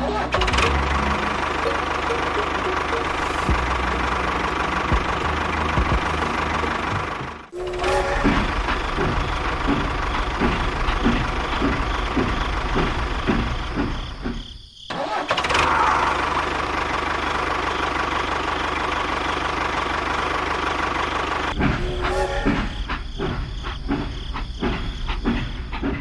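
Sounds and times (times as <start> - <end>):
engine running with knock: 0.4 - 14.6, 15.2 - 26.0.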